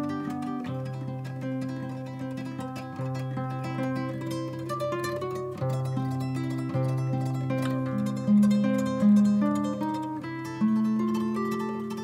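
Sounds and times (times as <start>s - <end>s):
plucked strings melody: 0.0s - 12.0s.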